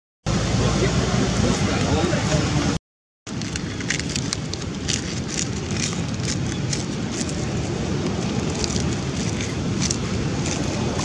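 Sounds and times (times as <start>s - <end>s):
wind rumbling on microphone: 0.3s - 11.0s.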